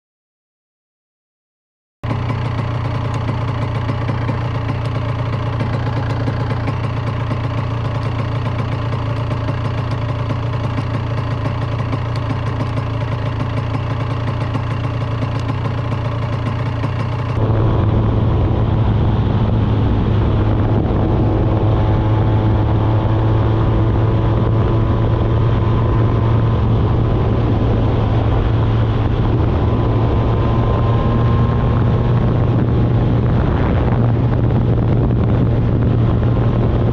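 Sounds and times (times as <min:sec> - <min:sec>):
two-stroke motorcycle engine: 0:02.0 - 0:36.9.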